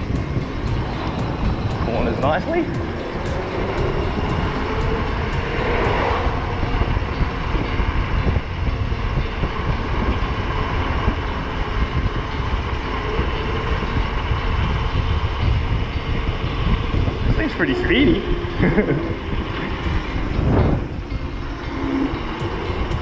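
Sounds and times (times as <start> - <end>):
road rumble: 0.0 - 23.0
wind buffeting microphone: 0.0 - 23.0.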